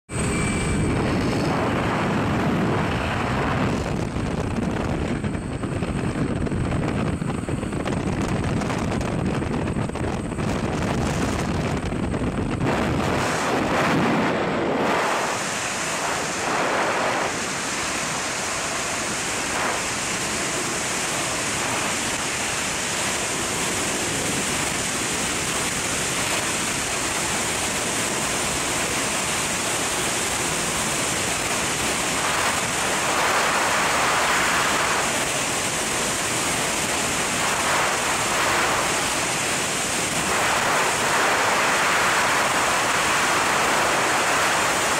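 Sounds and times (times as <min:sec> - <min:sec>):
aircraft engine and propeller: 0:00.0 - 0:44.9
freefall wind over microphone: 0:00.1 - 0:44.9.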